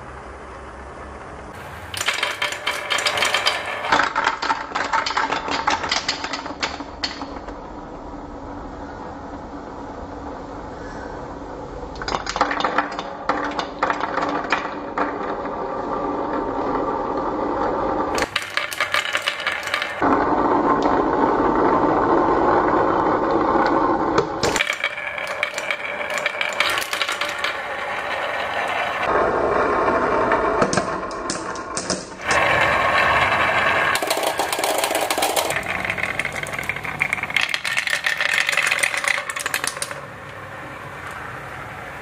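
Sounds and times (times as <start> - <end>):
marbles rolling down wooden ramp: 1.5 - 7.6, 12.0 - 40.6.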